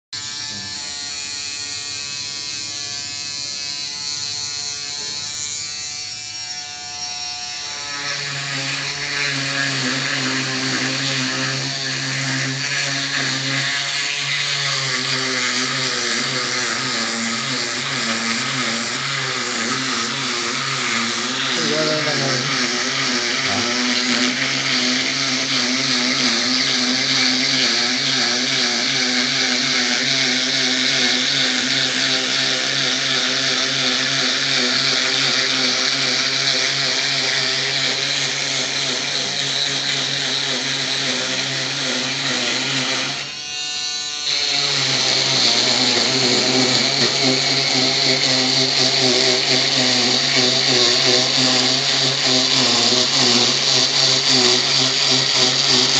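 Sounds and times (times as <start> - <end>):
cutting machine motor whining: 0.2 - 55.9.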